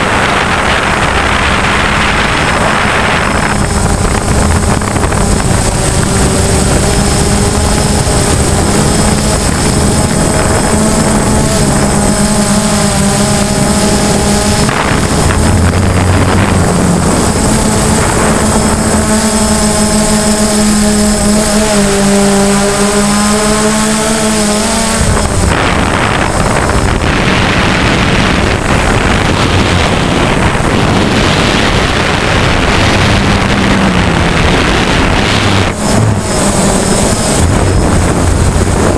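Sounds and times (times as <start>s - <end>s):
drone propellers buzzing: 0.0s - 38.9s
rough rushing noise: 0.0s - 38.9s.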